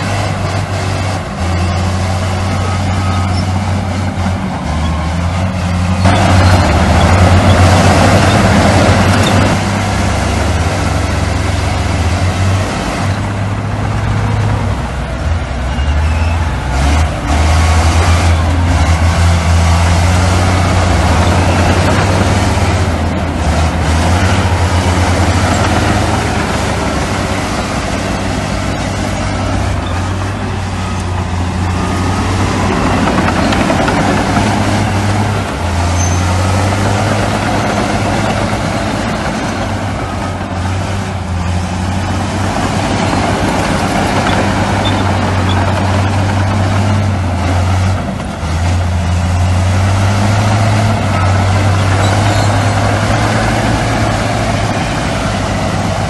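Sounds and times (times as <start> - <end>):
heavy diesel machinery droning: 0.0 - 56.0.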